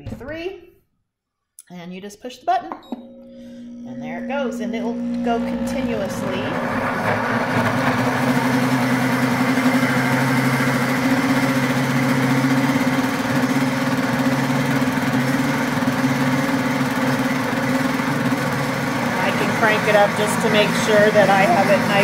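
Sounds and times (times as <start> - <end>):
blender motor humming: 3.0 - 22.0.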